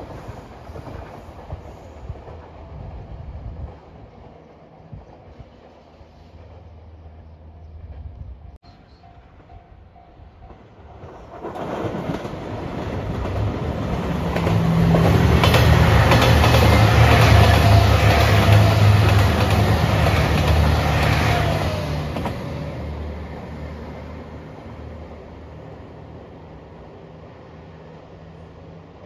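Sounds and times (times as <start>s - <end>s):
diesel train passing: 0.0s - 29.0s.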